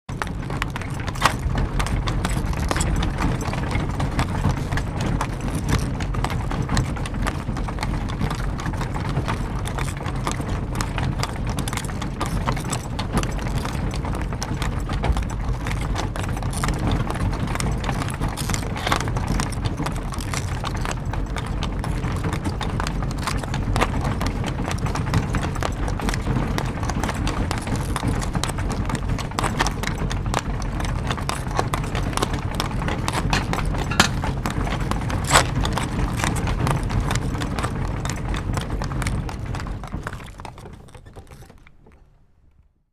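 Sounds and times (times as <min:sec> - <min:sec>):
carriage low rumble: 0:00.1 - 0:40.1
horse hooves clip-clopping: 0:00.1 - 0:42.0.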